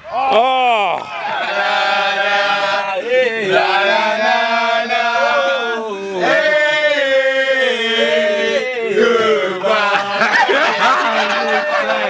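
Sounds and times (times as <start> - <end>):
voices chanting together: 0.0 - 12.0.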